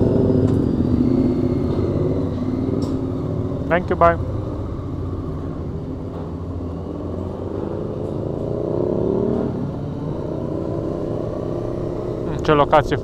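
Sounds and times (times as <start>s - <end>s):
motorcycle engine pulling away: 0.0s - 13.0s.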